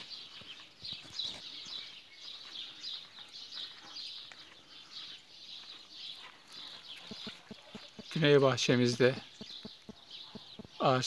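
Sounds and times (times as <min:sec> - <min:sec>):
birds chirping and twittering: 0:00.0 - 0:11.0.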